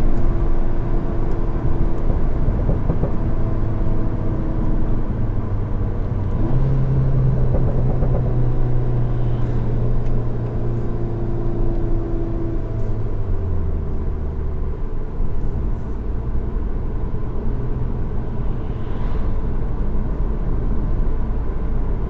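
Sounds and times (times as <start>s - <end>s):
car engine drone from inside cabin: 0.0s - 22.0s.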